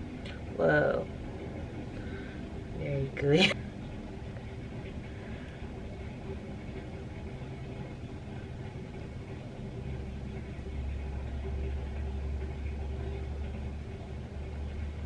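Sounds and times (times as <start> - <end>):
faint hum: 0.0 - 15.0
low steady rumble: 0.0 - 15.0.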